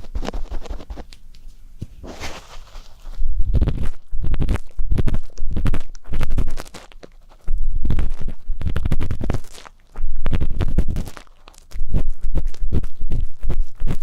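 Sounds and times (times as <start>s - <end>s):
ear pick scratching microphone: 0.0s - 1.2s, 1.8s - 14.0s.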